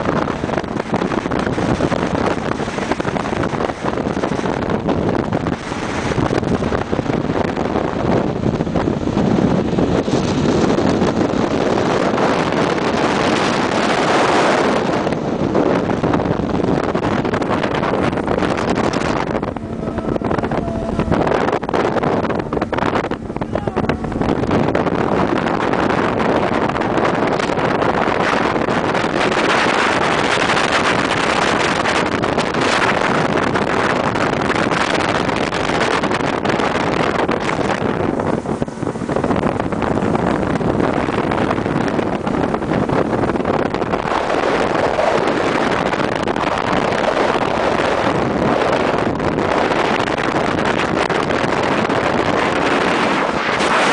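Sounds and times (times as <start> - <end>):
motorboat engine: 0.0 - 53.9
water rushing: 0.0 - 53.9
wind buffeting microphone: 0.0 - 53.9.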